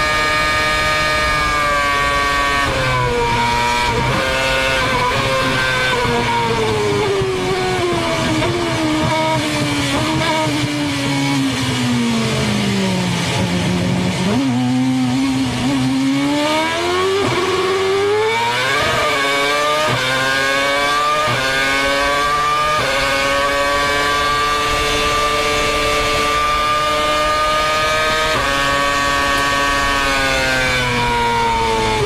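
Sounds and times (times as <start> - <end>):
racing car engine: 0.0 - 32.0.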